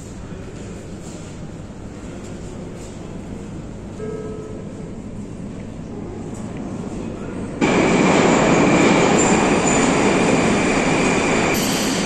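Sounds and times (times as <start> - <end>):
train wheel and running noise: 0.0 - 12.0.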